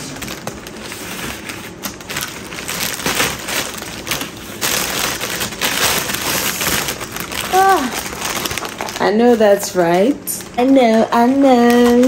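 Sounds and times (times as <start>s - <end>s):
cellophane crinkling: 0.0s - 12.0s.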